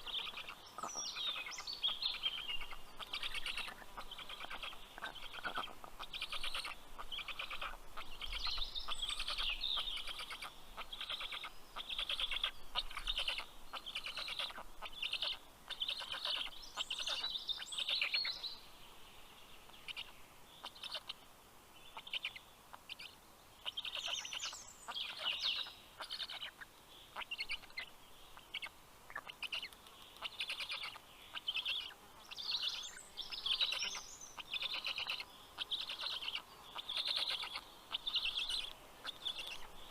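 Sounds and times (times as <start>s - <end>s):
birds chattering trills: 0.0s - 39.9s.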